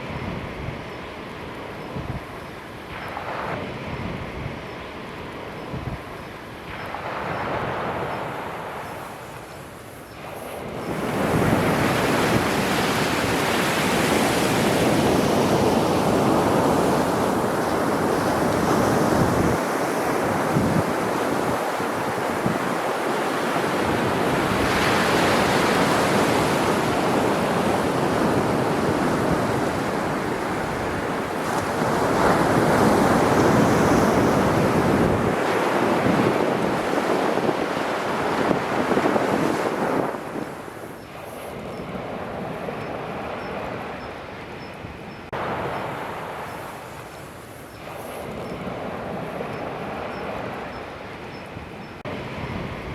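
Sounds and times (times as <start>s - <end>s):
waves breaking on shore: 0.0s - 52.9s
wind buffeting microphone: 0.0s - 52.9s.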